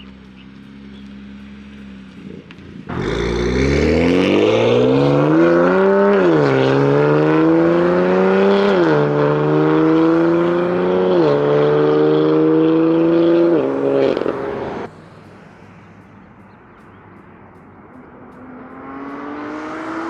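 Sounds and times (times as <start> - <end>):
car engine accelerating through gears: 0.0 - 14.9, 16.2 - 20.0.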